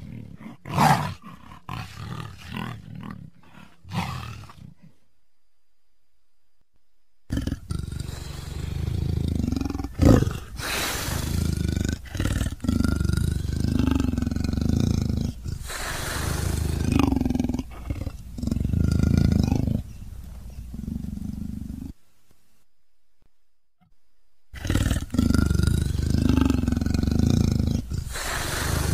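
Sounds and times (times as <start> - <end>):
tiger roaring: 0.0 - 5.0, 7.3 - 22.0, 24.6 - 28.9.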